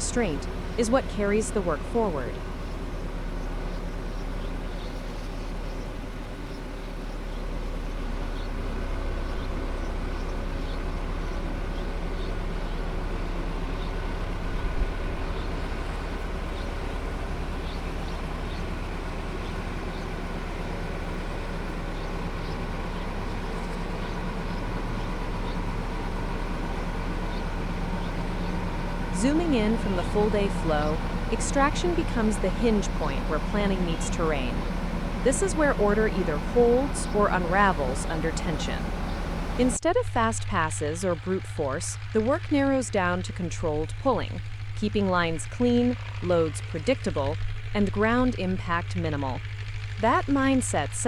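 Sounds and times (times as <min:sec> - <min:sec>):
heavy machine engine running: 0:00.0 - 0:51.0.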